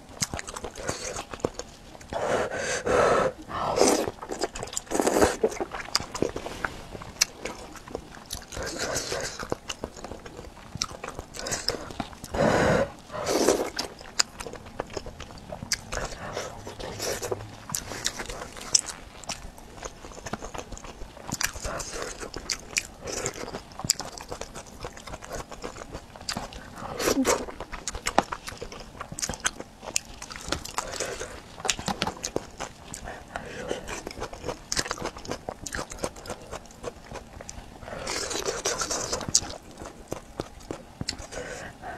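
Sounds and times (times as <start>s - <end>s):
wet chewing: 0.0s - 2.2s, 3.7s - 41.9s.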